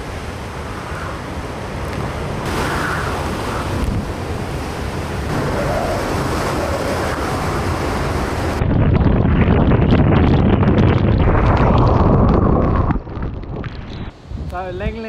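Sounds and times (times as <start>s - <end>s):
strong wind gusts: 0.0s - 15.0s
wind buffeting microphone: 0.0s - 15.0s.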